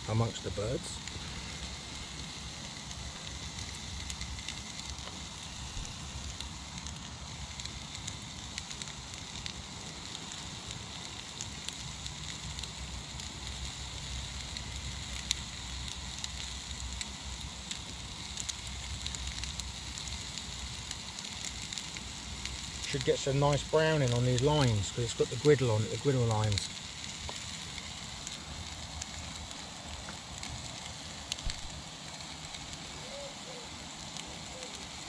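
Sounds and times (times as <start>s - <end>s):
burger patties sizzling on griddle: 0.0s - 35.0s.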